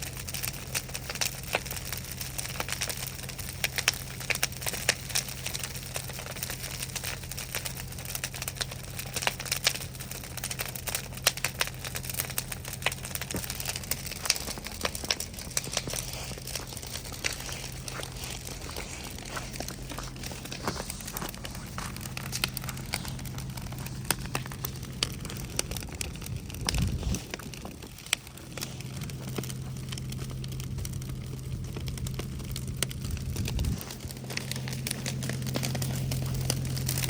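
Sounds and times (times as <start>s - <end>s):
bonfire crackling and popping: 0.0s - 37.0s.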